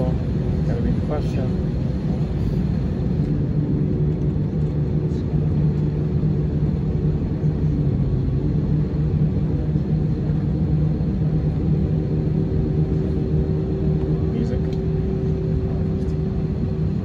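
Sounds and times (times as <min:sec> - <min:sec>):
jet cabin rumble: 0:00.0 - 0:17.0
low even hum: 0:00.0 - 0:17.0.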